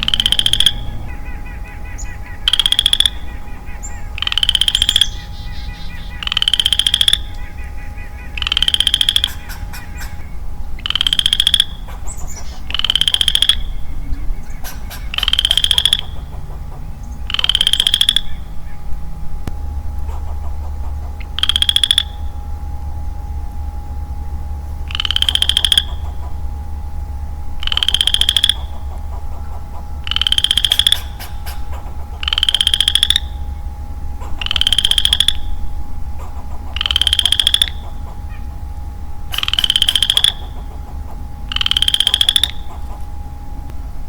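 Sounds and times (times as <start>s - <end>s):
frog calling rattling trill: 0.0s - 43.6s.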